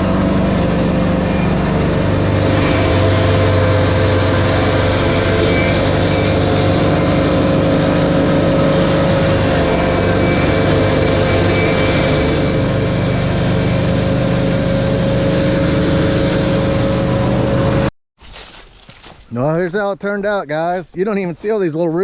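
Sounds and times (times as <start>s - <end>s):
straw blower engine running: 0.0s - 17.9s.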